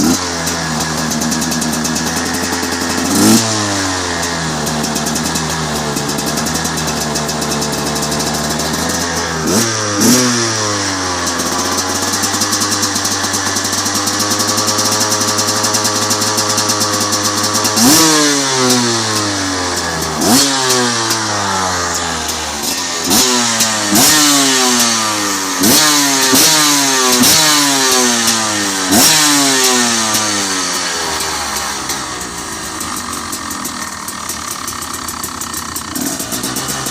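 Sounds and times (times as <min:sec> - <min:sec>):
two-stroke engine revving: 0:00.0 - 0:36.9.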